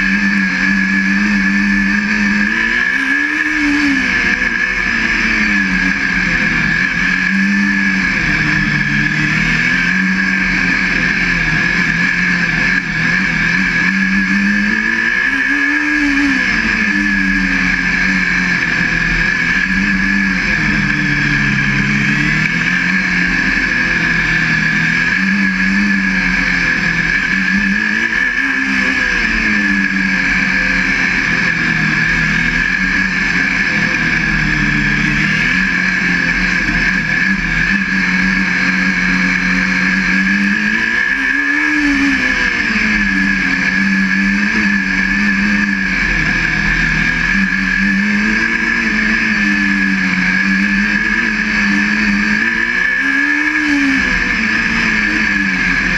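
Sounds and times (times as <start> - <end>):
race car engine revving: 0.0 - 55.9
steady high whine: 0.0 - 55.9.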